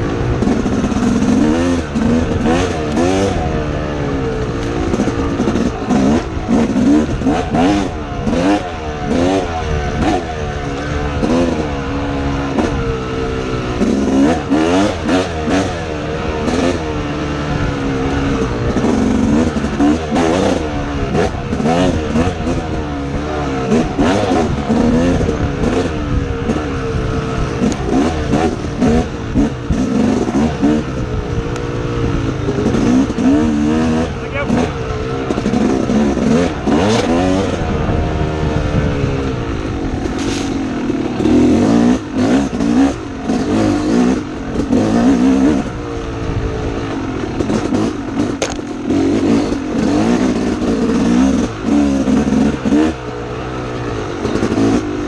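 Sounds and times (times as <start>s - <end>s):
bike knocking and rattling: 0.0s - 13.1s, 16.4s - 55.0s
dirt bike engine revving: 0.0s - 55.0s.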